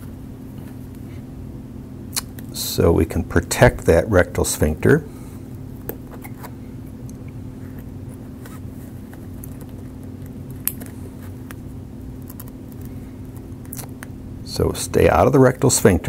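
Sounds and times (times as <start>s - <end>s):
low room tone hum: 0.0s - 16.0s.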